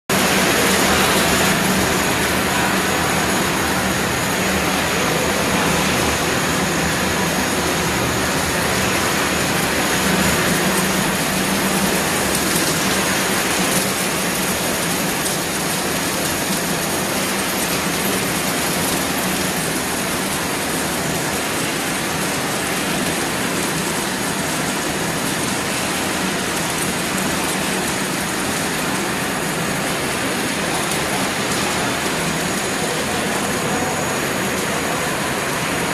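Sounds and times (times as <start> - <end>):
loud machine noise of extruder: 0.1 - 35.9.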